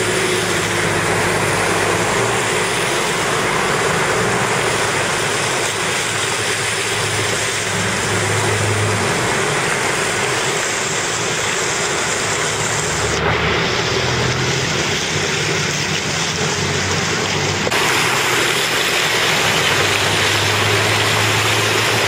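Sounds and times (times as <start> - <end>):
low engine hum: 0.0 - 22.0
water splashing from wheels: 0.0 - 22.0.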